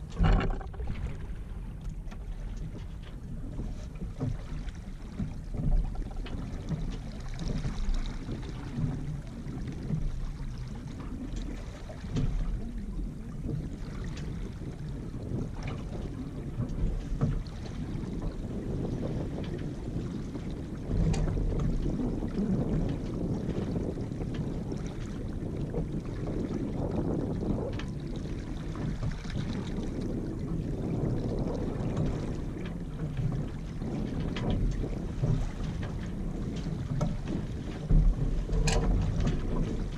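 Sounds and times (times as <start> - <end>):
water washing along hull: 0.0 - 39.9
wind buffeting microphone: 0.0 - 39.9.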